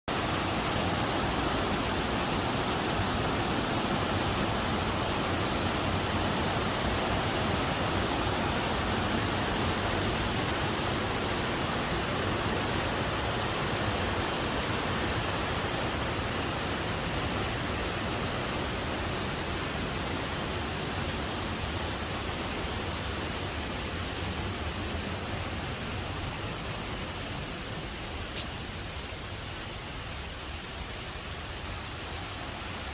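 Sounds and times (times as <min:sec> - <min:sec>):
mountain stream rushing: 0:00.1 - 0:32.9.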